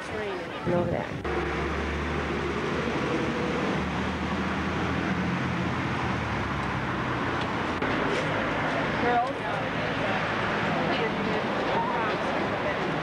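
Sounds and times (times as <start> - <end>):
road traffic noise: 0.0 - 13.0
vehicle engine humming: 0.0 - 13.0.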